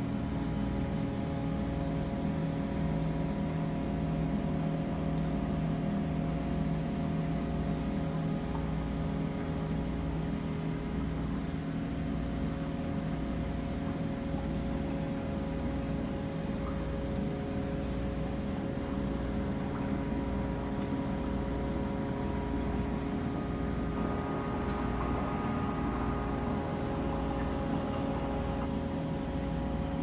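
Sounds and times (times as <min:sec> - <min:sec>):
aquarium pump humming: 0:00.0 - 0:30.0.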